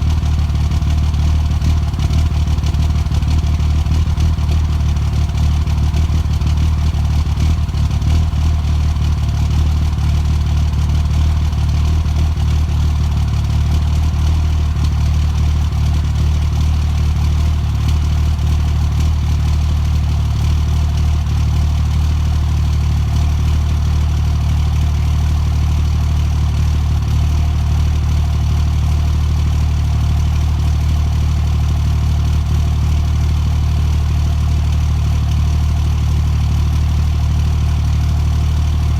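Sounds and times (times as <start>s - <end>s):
car engine idling with misfire: 0.0s - 38.9s.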